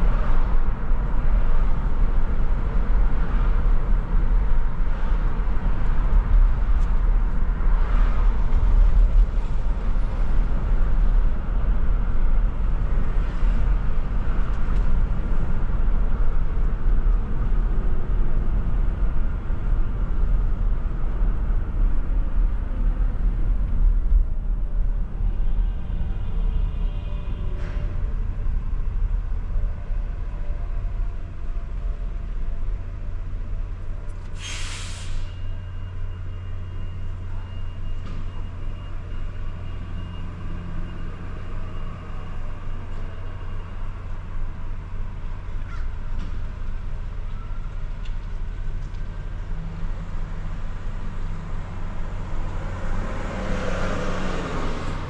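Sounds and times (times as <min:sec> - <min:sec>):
car road noise rumble: 0:00.0 - 0:55.0
light traffic noise: 0:00.0 - 0:55.0.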